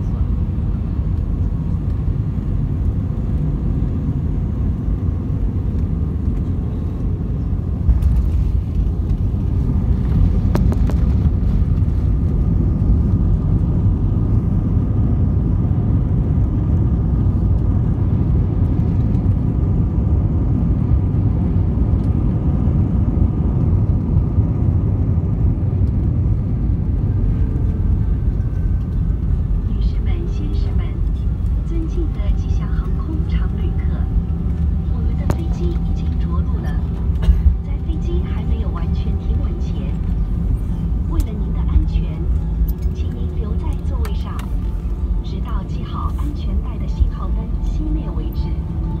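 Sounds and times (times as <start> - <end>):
low rumble of jet engines and wheels: 0.0 - 49.0.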